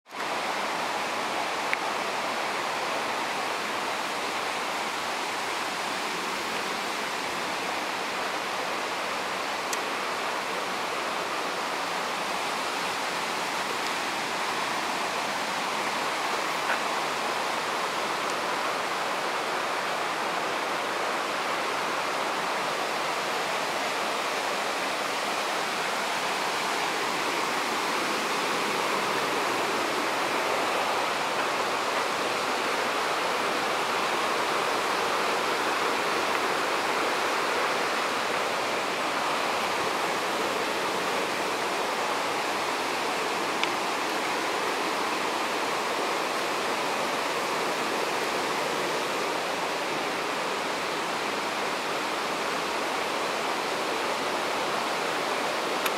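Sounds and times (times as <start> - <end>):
stream water rushing: 0.1 - 55.9.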